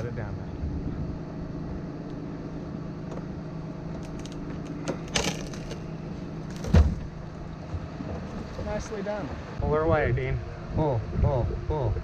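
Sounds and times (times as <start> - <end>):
truck engine idling: 0.0 - 9.6.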